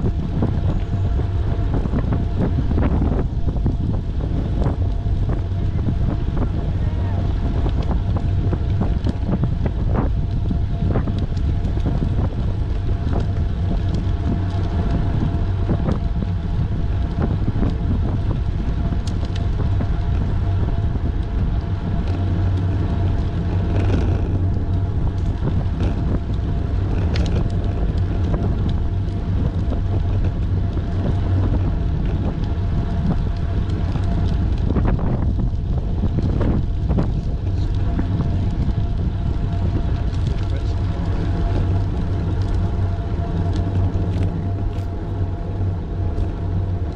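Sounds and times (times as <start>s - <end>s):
faint road noise: 0.0s - 46.9s
wind buffeting microphone: 0.0s - 46.9s.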